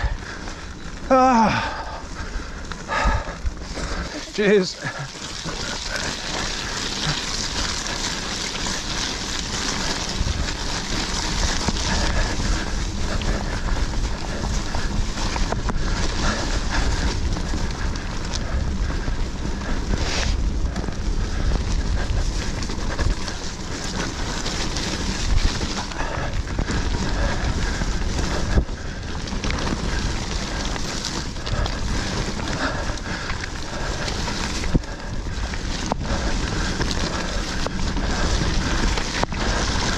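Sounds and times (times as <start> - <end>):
mountain bike rattling on dirt trail: 0.0 - 39.9
wind buffeting microphone: 0.0 - 39.9.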